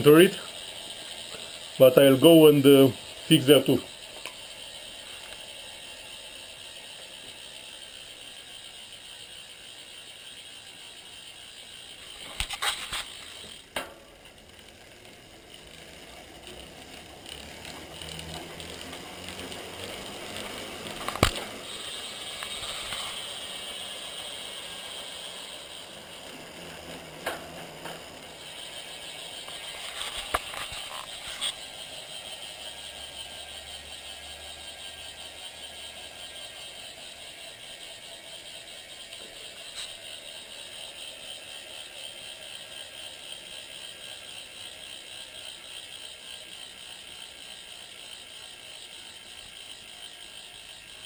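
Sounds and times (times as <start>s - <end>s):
bicycle hub ratcheting buzz: 0.0s - 51.0s.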